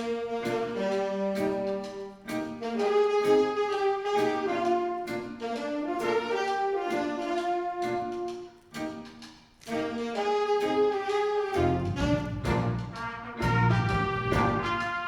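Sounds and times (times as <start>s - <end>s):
jazz big band playing: 0.0s - 15.0s.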